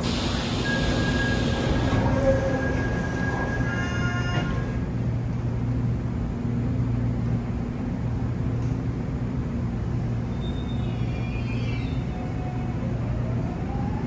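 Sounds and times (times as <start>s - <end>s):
subway train humming: 0.0s - 14.0s.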